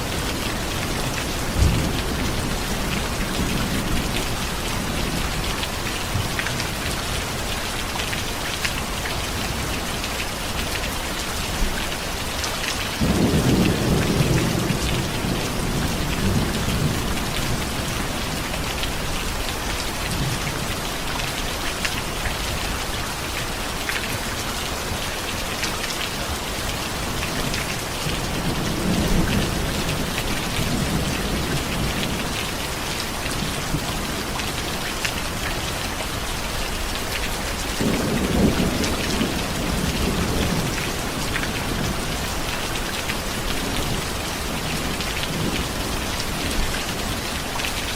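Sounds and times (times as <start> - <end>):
steady rain pattering: 0.0 - 47.9.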